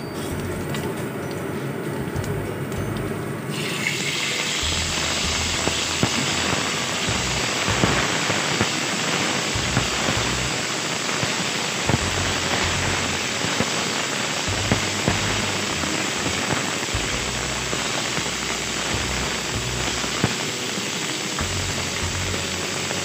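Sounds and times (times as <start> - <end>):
meat sizzling in oil: 3.5 - 23.0.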